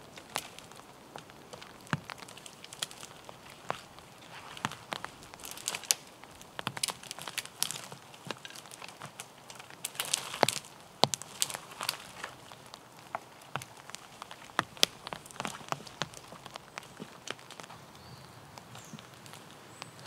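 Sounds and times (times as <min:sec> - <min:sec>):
branches dragged through brash: 0:00.0 - 0:17.8
branches snapping and crackling: 0:00.0 - 0:20.0.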